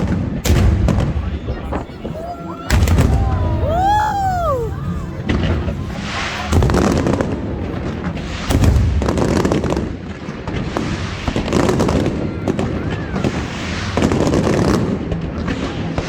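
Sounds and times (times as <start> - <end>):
fireworks booming: 0.0 - 15.2.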